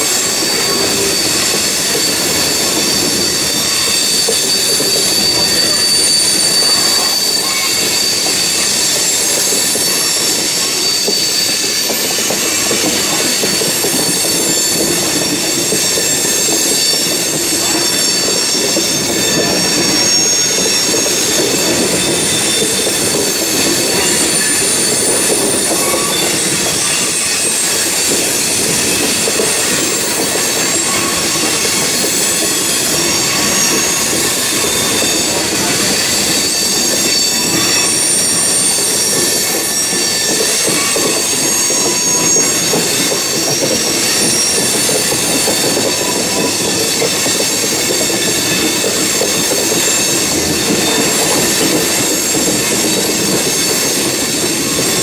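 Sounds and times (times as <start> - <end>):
freight train rumbling and rattling: 0.0 - 55.0
steel wheels squealing: 0.0 - 55.0.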